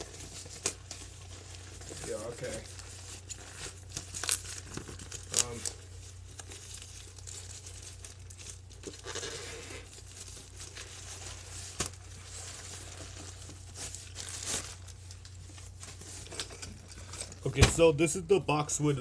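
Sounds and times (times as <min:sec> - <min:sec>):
hands tearing packaging: 0:00.0 - 0:16.5.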